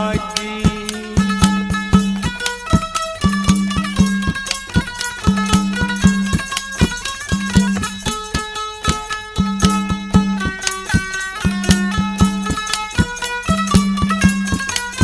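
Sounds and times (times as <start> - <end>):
folk melody: 0.0 - 15.0
steady drum beat: 0.0 - 15.0.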